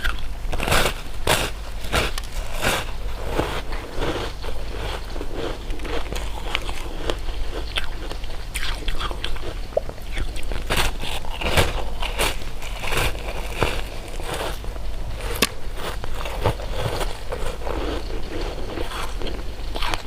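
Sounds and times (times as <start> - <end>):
chewing candy with crackles: 0.0 - 20.0
loud crunches: 0.0 - 20.0.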